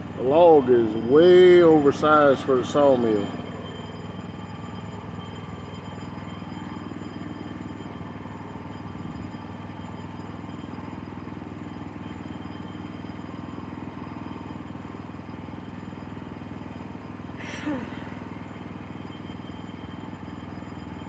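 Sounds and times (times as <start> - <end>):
sawmill gas engine running: 0.0 - 21.0.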